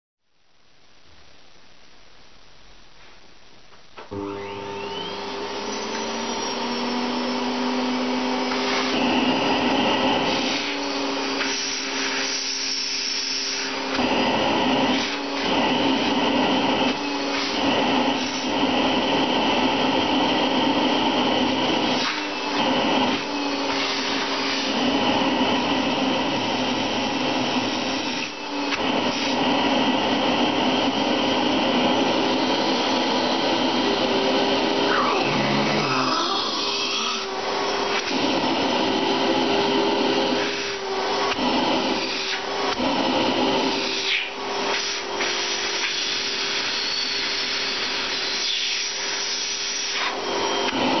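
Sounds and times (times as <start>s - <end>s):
vacuum cleaner running: 4.0s - 51.0s.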